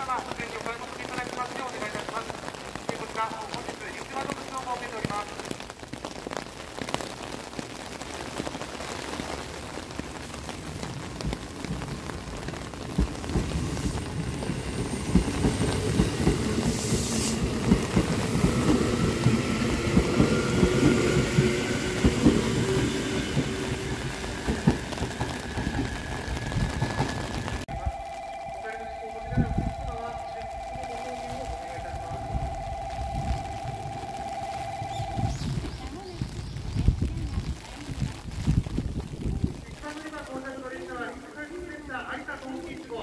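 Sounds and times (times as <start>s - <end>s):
rain hissing: 0.0s - 43.0s.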